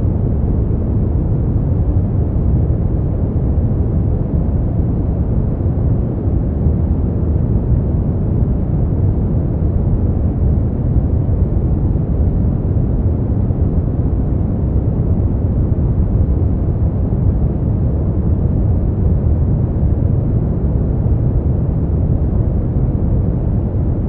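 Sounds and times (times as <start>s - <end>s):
deep muffled white noise: 0.0s - 24.0s.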